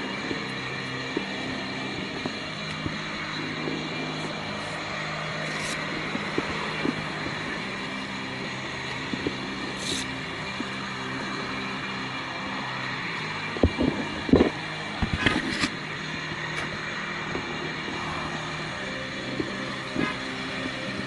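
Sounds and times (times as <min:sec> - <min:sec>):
street background noise: 0:00.0 - 0:21.0
vehicle humming: 0:00.0 - 0:21.0.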